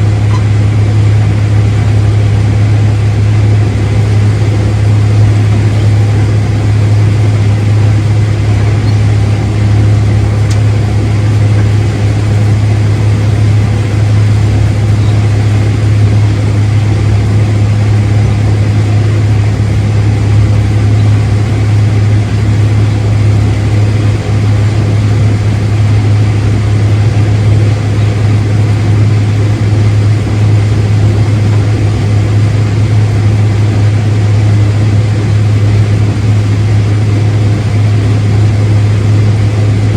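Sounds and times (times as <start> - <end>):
farm machinery engine hum: 0.0 - 39.9.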